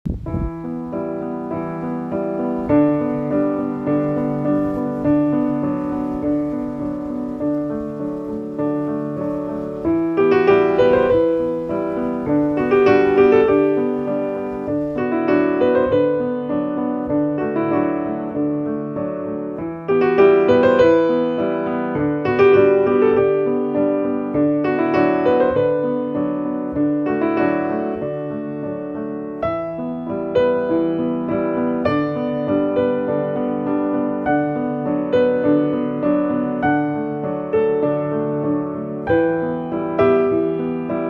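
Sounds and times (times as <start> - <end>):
piano music: 0.1 - 41.0.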